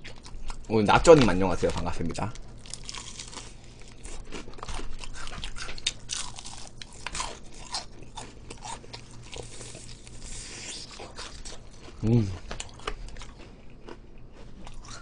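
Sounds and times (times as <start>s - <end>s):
chewing crispy fried chicken: 0.0s - 15.0s.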